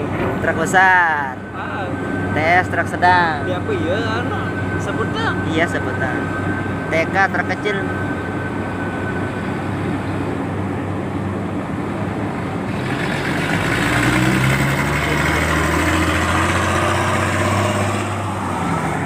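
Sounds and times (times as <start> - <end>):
heavy vehicle engine and road noise: 0.0 - 19.0
vehicle engines running: 0.0 - 19.0.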